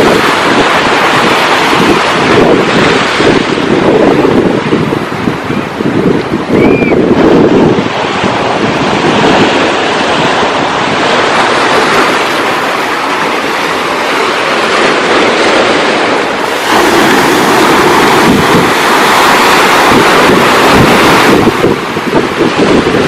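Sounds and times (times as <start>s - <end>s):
ocean surf washing on shore: 0.0s - 23.0s
wind blowing over microphone: 0.0s - 23.0s.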